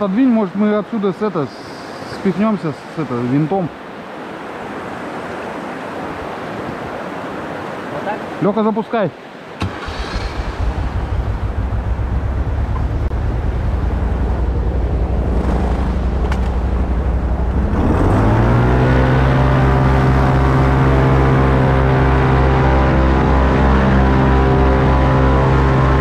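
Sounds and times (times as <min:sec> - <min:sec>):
airboat engine and propeller drone: 0:00.0 - 0:26.0.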